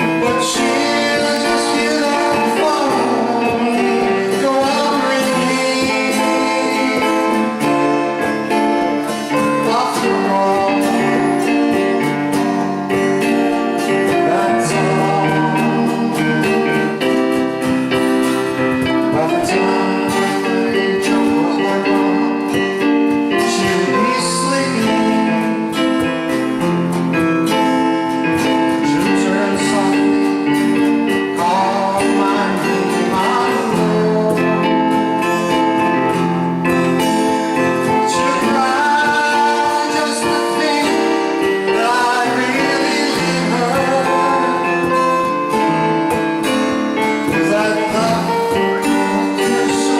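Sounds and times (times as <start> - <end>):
guitar chords: 0.0 - 49.9
keyboard chords: 0.0 - 49.9
live band playing: 0.0 - 49.9.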